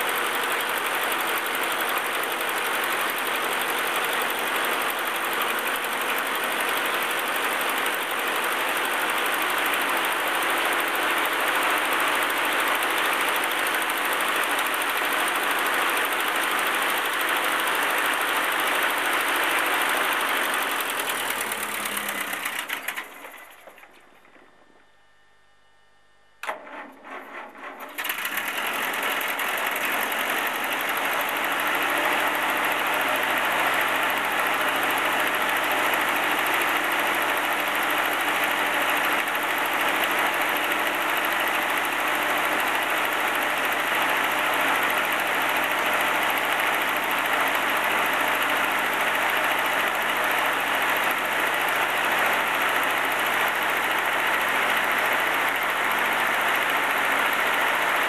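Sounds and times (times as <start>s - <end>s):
tractor engine idling: 0.0s - 24.8s, 26.4s - 58.0s.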